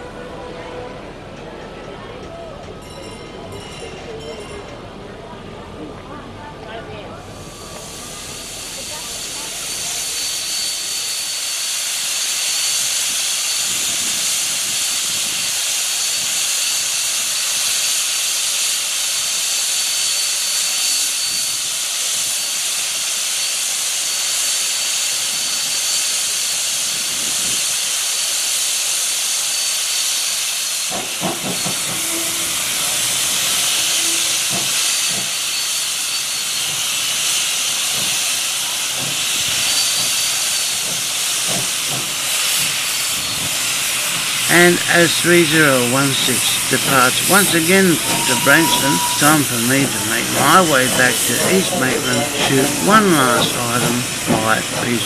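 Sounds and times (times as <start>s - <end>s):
steam venting hiss: 7.3s - 55.0s.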